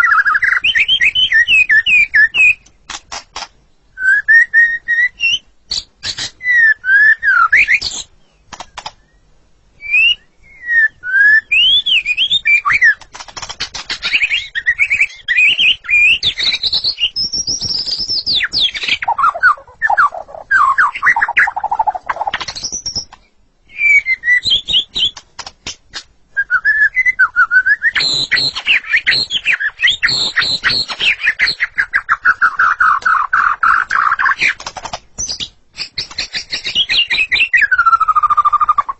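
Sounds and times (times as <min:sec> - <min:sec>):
bird singing whistled phrases: 0:00.0 - 0:02.6, 0:04.0 - 0:08.1, 0:09.0 - 0:13.0, 0:14.0 - 0:23.1, 0:23.7 - 0:25.2, 0:26.4 - 0:34.6, 0:35.2 - 0:38.9.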